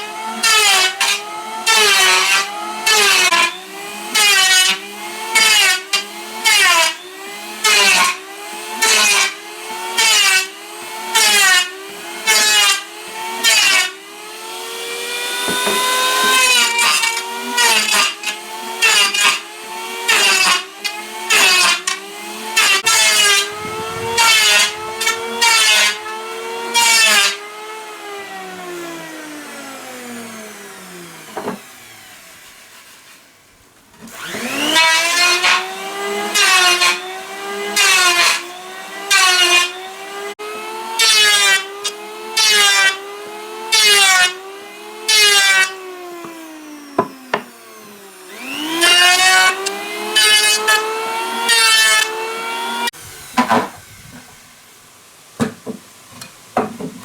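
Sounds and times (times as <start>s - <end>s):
power tool cutting wood: 0.0s - 33.2s, 34.0s - 55.7s.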